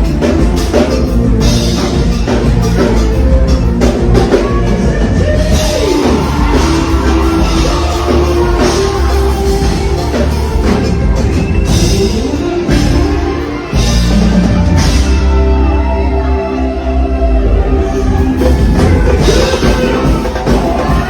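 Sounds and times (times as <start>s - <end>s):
drum kit: 0.0s - 15.7s, 17.8s - 21.0s
heavy bass: 0.0s - 21.0s
live band playing: 0.0s - 21.0s.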